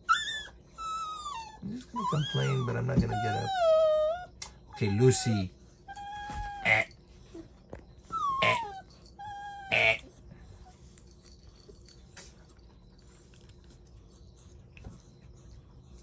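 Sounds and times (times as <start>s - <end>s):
puppy whining: 0.0s - 16.0s.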